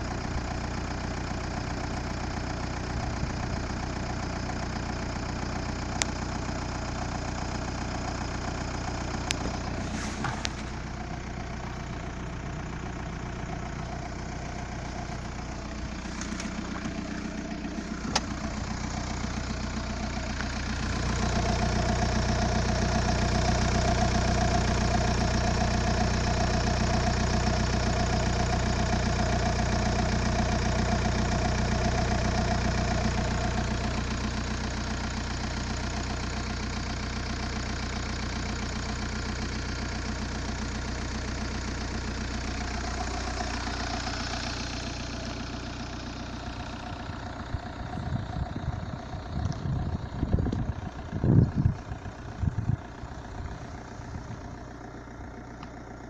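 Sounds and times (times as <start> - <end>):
car engine humming: 0.0 - 56.0.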